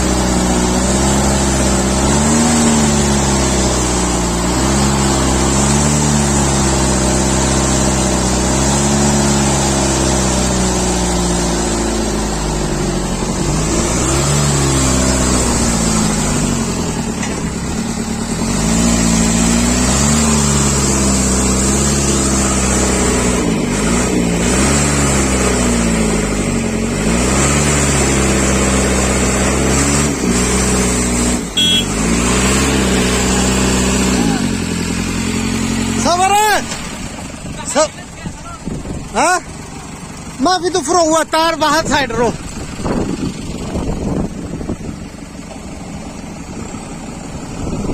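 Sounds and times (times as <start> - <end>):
diesel engine working under load: 0.0 - 47.9.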